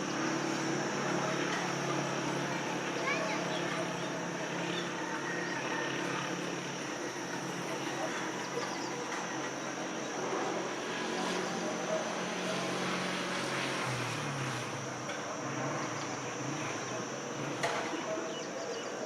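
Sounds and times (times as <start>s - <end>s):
high insect drone: 0.0s - 19.0s
low engine-like hum: 0.0s - 19.0s.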